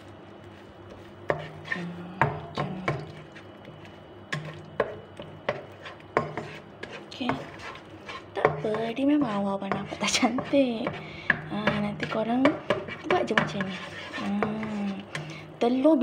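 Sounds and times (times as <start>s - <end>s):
spatula scraping frying pan: 0.5s - 15.5s.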